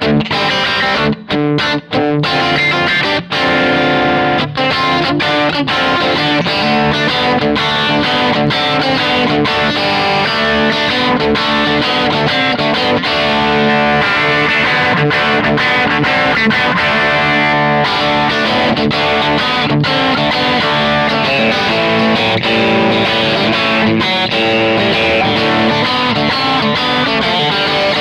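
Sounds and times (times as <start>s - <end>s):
electric guitar playing: 0.0s - 28.0s.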